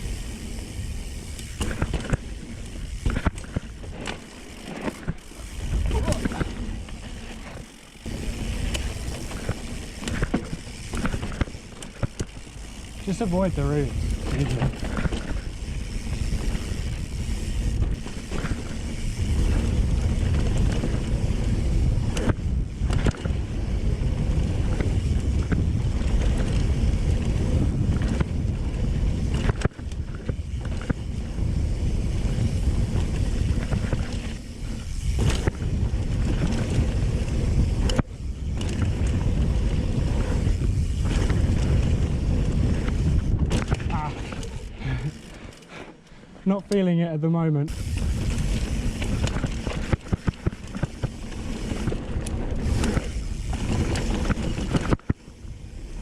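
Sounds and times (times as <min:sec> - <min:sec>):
bike tyres rattling over dirt: 0:00.0 - 0:56.0
wind buffeting microphone: 0:07.9 - 0:45.2, 0:47.7 - 0:56.0.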